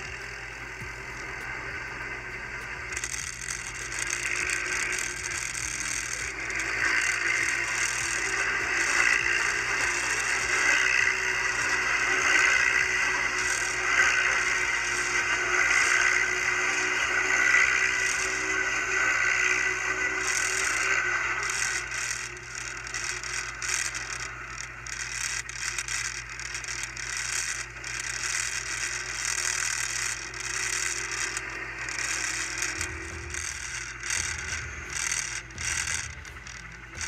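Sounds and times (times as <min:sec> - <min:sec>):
atv engines running: 0:00.0 - 0:37.0
rattling clattering noise: 0:02.6 - 0:16.4, 0:20.2 - 0:37.0.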